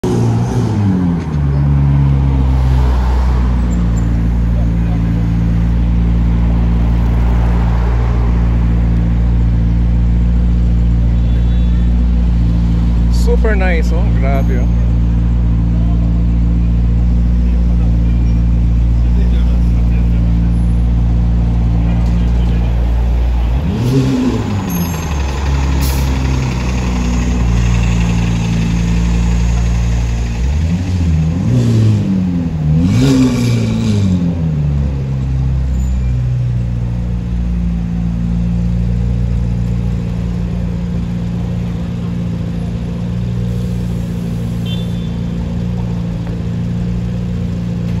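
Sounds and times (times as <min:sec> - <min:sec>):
sports car engine idling: 0:03.7 - 0:31.5, 0:36.4 - 0:48.0.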